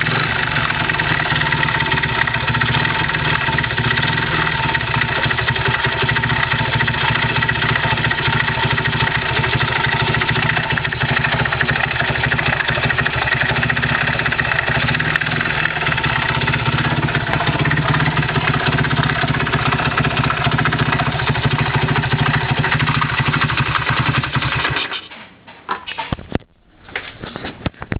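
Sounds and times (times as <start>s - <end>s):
small motorcycle engine idling: 0.0s - 25.0s.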